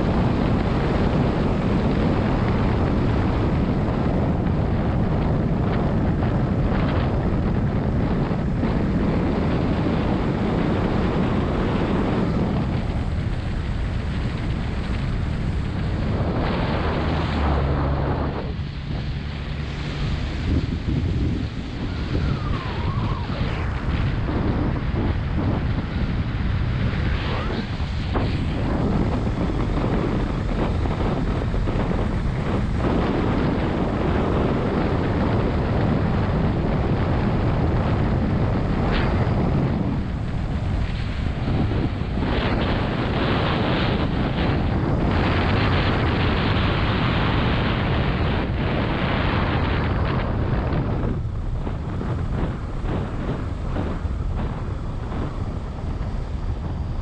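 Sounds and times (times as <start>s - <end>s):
truck road and engine noise: 0.0s - 57.0s
wind rushing over microphone: 0.0s - 57.0s.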